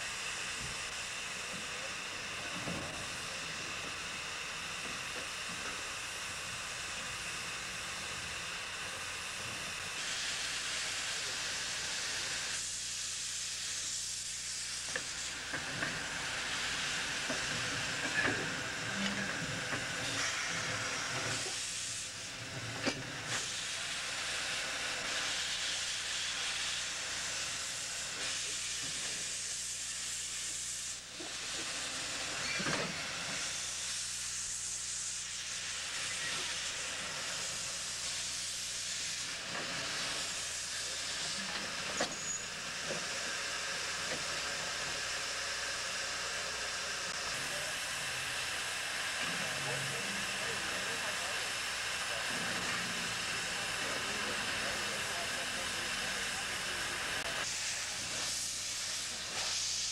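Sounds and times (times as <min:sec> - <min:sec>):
steam locomotive hissing steam: 0:00.0 - 0:59.9.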